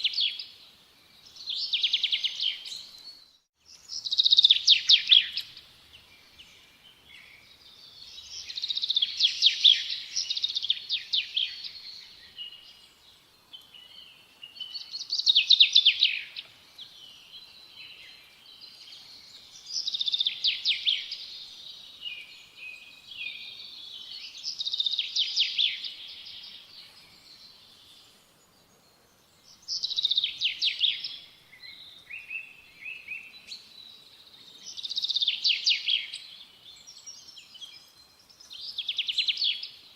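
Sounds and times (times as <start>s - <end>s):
soft bird chirps: 0.0s - 39.9s.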